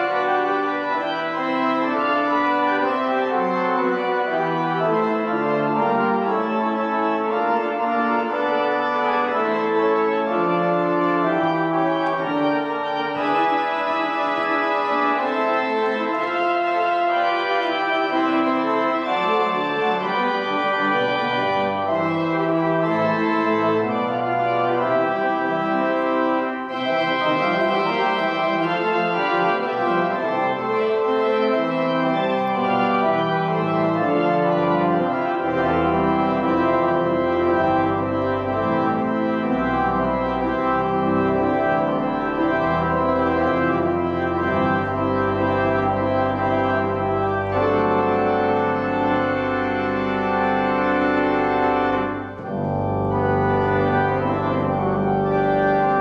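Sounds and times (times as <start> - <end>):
slow organ music: 0.0 - 56.0.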